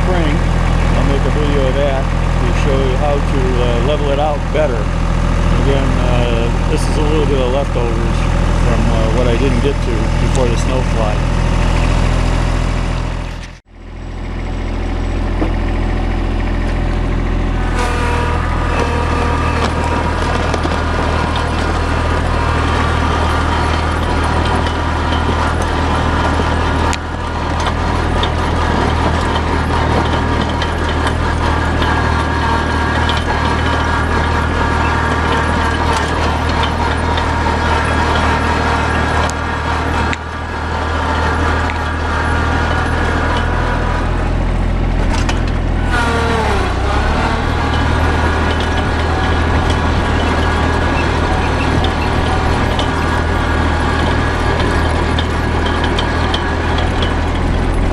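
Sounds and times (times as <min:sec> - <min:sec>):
steady higher whine: 0:00.0 - 0:57.9
tractor engine running: 0:00.0 - 0:57.9.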